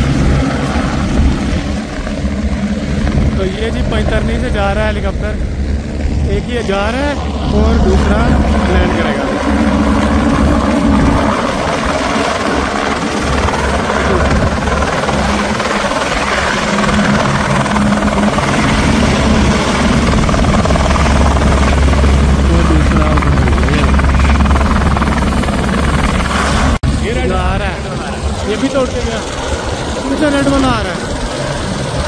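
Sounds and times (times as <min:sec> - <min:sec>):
helicopter rotor and engine: 0:00.0 - 0:32.0.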